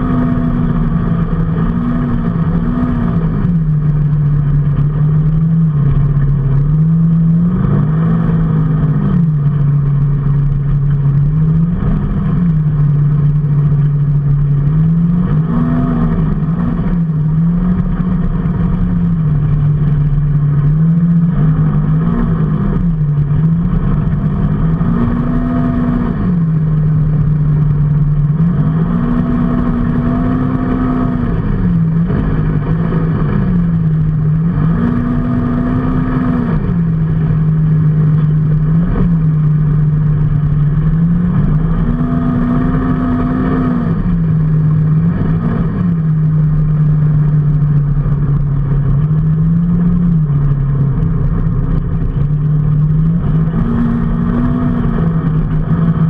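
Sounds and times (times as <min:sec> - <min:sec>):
vehicle engine revving up and down: 0:00.0 - 0:56.0.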